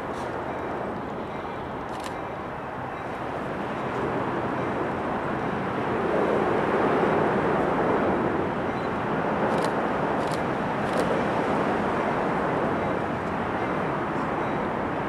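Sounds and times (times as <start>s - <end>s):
diesel locomotive engines rumbling: 0.0s - 15.0s.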